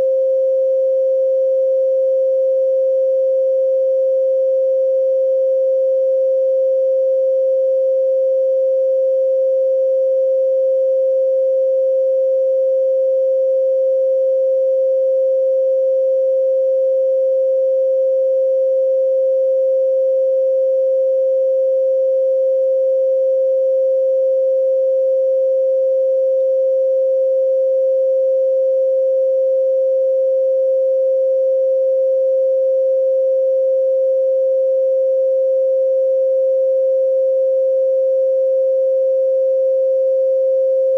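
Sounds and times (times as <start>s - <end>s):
steady sine tone: 0.0s - 40.9s.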